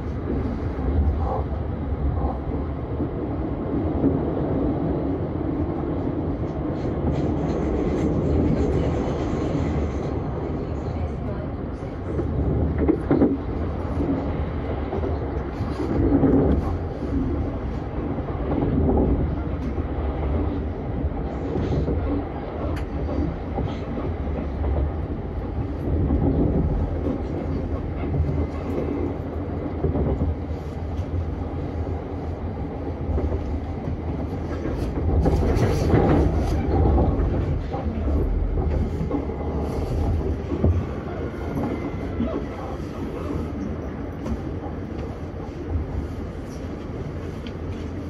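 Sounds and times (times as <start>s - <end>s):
faint clicks over rails: 0.0s - 48.0s
train wheels rumbling on track: 0.0s - 48.0s.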